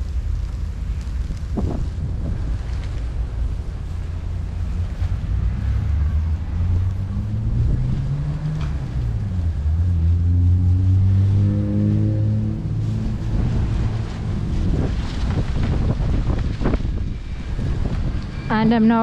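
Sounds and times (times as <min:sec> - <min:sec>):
vehicle engine humming: 0:00.0 - 0:19.0
wind noise on microphone: 0:00.0 - 0:19.0.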